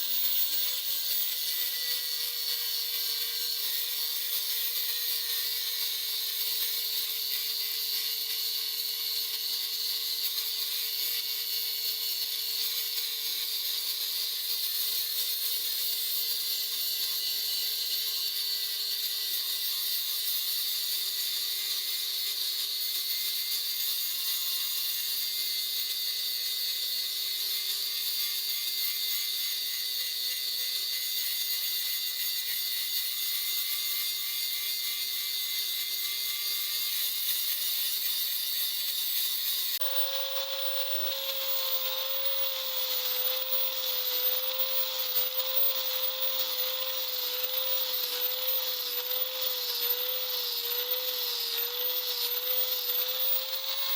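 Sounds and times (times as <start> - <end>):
grinder grinding steel: 0.0 - 53.9.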